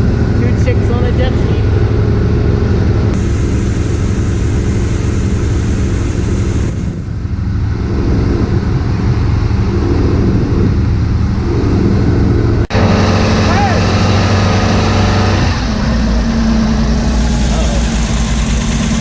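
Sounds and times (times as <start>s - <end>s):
boat engines droning: 0.0s - 19.0s.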